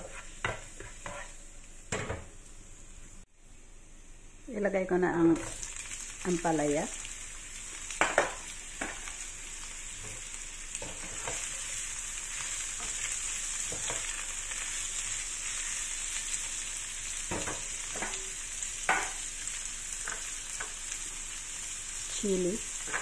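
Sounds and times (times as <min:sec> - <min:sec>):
vegetables sizzling in hot oil: 0:00.0 - 0:03.2, 0:04.6 - 0:23.0.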